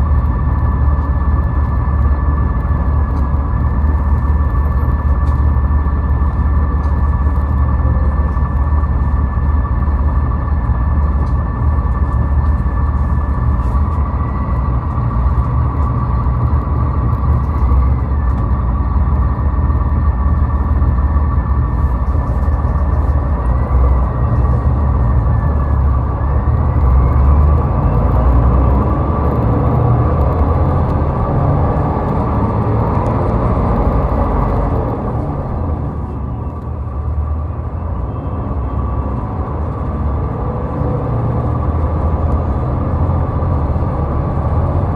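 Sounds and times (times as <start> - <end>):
highway car traffic rumble: 0.0 - 44.9.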